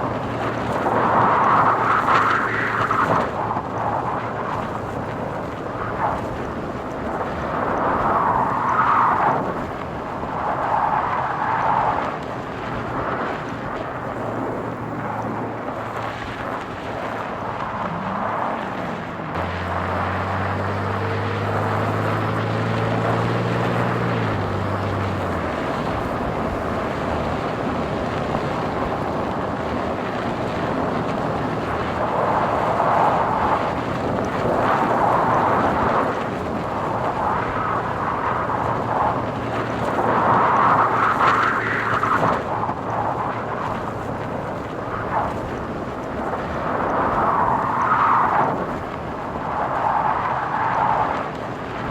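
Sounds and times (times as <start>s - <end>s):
car tyre and engine noise: 0.0s - 51.9s
engine hum: 0.0s - 51.9s.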